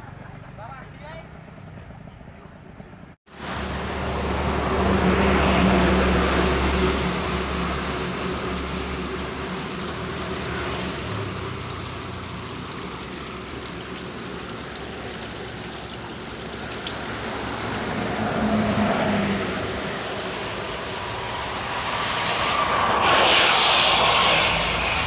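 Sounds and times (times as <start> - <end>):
passing road traffic: 0.0 - 25.0.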